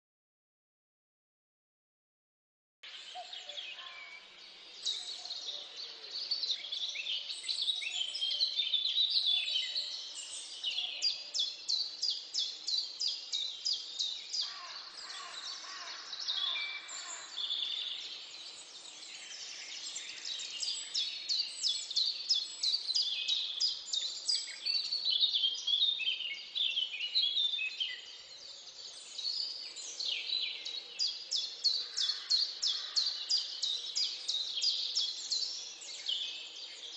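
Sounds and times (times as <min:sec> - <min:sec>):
songbirds singing: 0:02.8 - 0:36.9.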